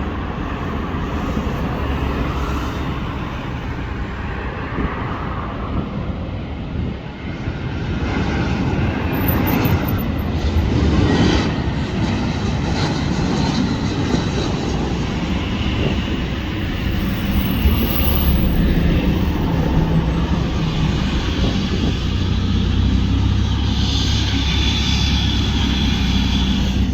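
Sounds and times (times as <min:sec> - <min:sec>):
jet engine rush: 0:00.0 - 0:26.9.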